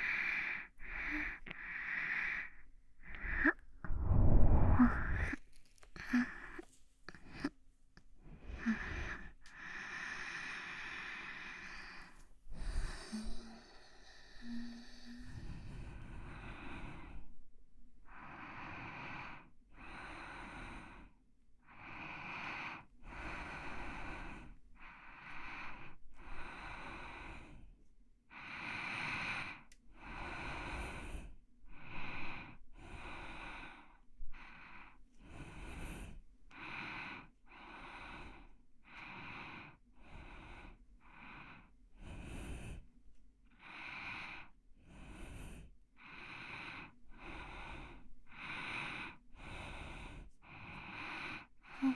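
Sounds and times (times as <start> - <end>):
person breathing softly: 0.0 - 51.9.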